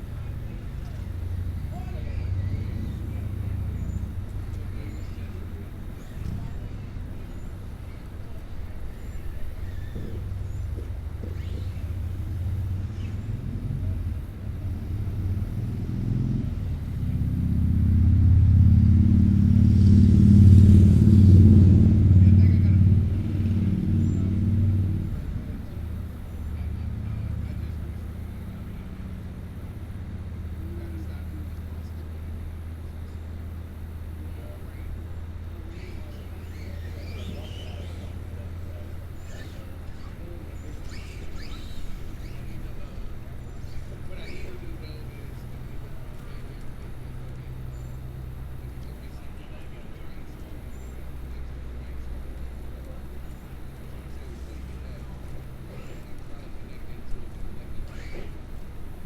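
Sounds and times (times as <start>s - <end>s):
birds chirping: 0.0s - 19.1s, 30.5s - 59.0s
engine humming: 0.0s - 59.0s.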